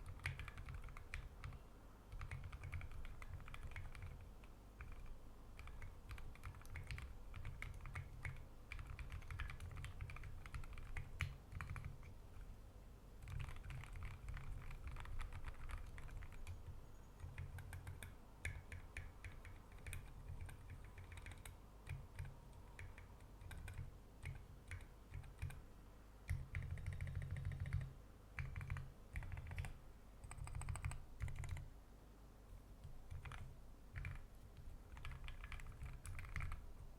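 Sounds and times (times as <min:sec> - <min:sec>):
mechanical keyboard typing: 0:00.0 - 0:12.5, 0:13.2 - 0:25.6, 0:26.2 - 0:31.7, 0:32.8 - 0:36.7.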